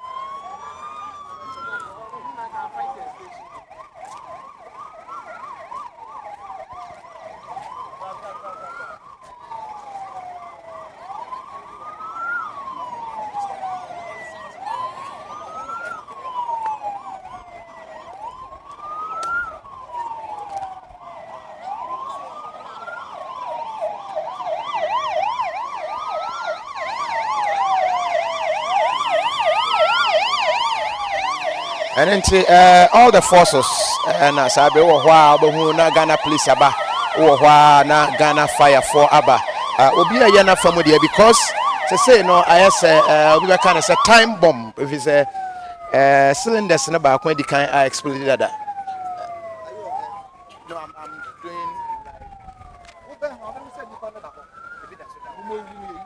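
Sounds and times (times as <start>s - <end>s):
wailing siren: 0.0s - 56.0s
yelping siren: 0.0s - 56.0s.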